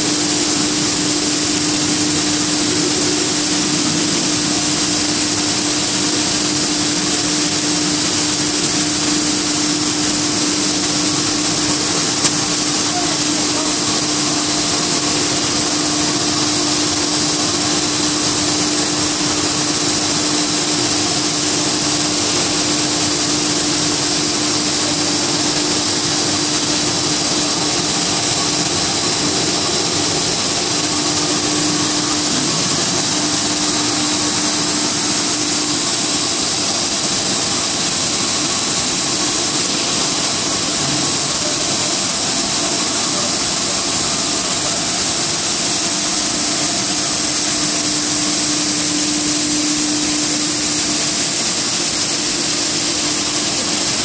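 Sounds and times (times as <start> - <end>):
industrial machinery drone: 0.0 - 54.0.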